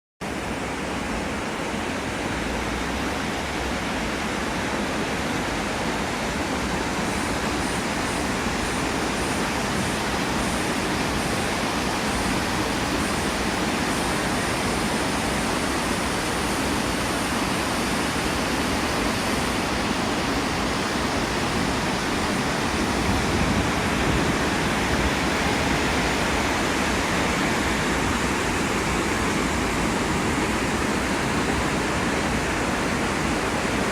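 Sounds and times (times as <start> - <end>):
running water rushing: 0.2 - 33.9.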